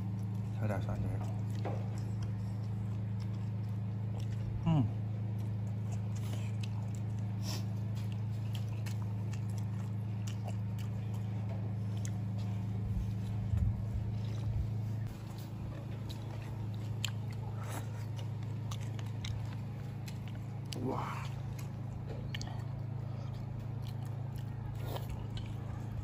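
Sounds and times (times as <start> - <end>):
person chewing food: 0.0 - 26.0
steady low hum: 0.0 - 26.0.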